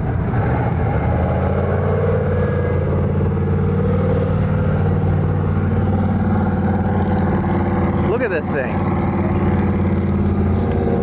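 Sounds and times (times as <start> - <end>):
car engine at low revs driving past: 0.0 - 11.0.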